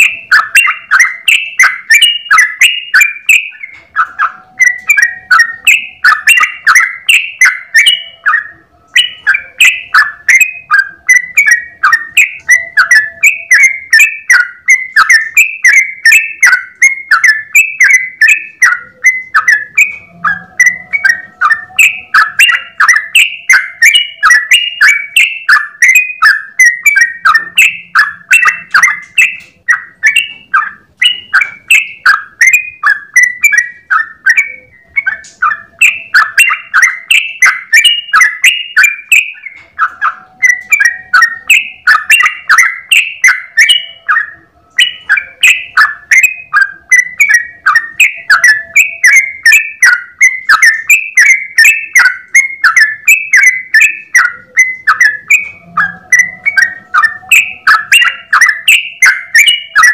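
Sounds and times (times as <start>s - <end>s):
bulbul singing bubbly notes: 0.0s - 59.9s.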